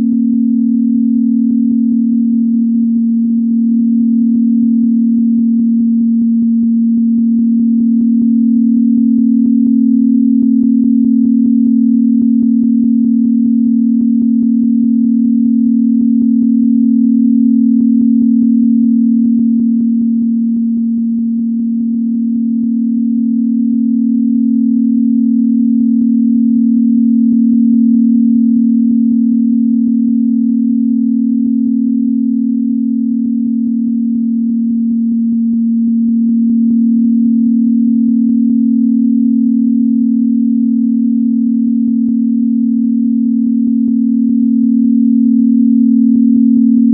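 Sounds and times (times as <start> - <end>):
low steady electronic tone: 0.0 - 46.9.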